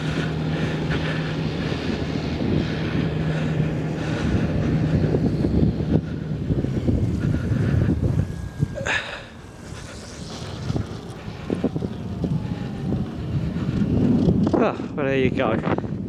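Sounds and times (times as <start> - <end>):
electric motor and propeller hum: 0.0 - 16.0
wind buffeting microphone: 0.0 - 16.0.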